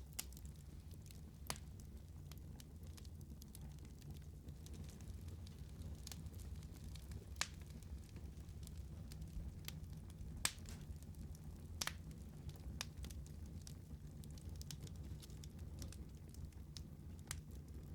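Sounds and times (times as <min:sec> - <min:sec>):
fire crackling and popping: 0:00.0 - 0:17.9
fire low rumble: 0:00.0 - 0:17.9.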